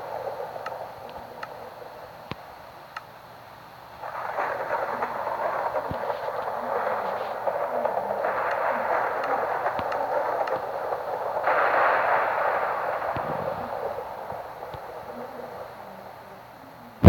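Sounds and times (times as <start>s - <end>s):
thunder rumbling: 0.0s - 17.0s.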